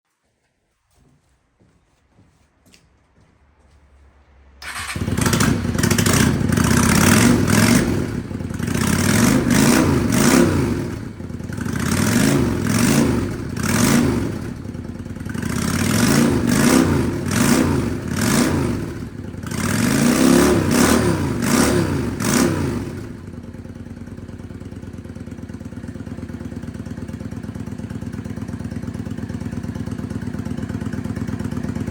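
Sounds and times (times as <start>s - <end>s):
motorcycle engine revving and idling: 4.6s - 31.9s.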